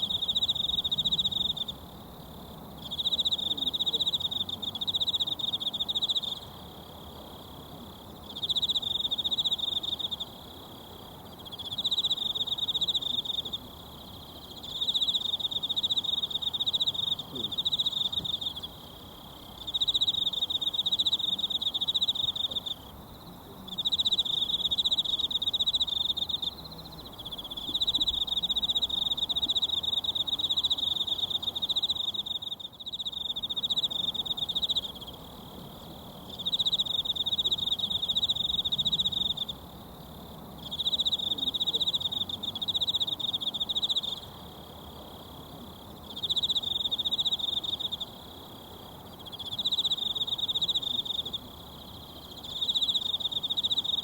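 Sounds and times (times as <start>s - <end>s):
insect trilling: 8.3s - 23.0s, 23.7s - 35.4s, 36.2s - 40.0s, 40.6s - 54.0s.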